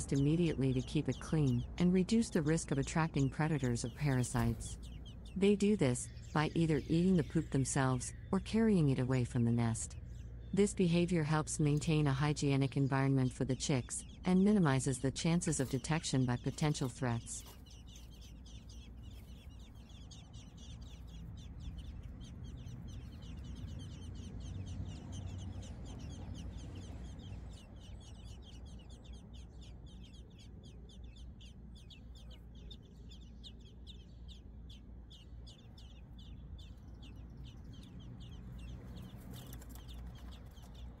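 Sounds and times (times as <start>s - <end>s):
low steady rumble: 0.0s - 41.0s
nestlings peeping: 0.0s - 41.0s.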